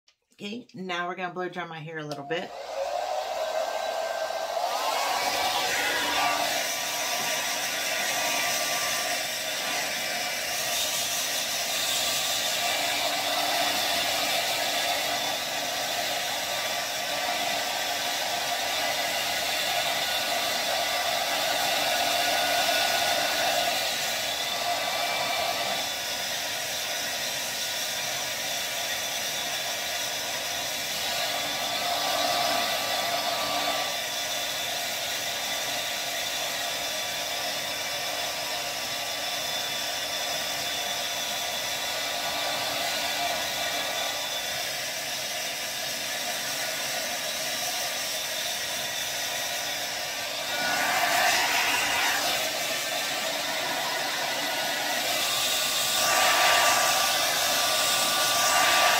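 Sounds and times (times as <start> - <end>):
hair dryer blowing: 1.0 - 58.9.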